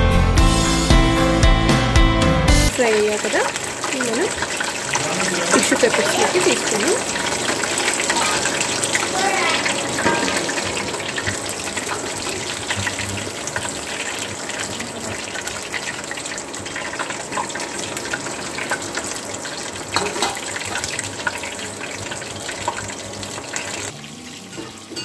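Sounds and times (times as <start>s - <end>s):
chicken deep-frying in oil: 2.7s - 25.0s.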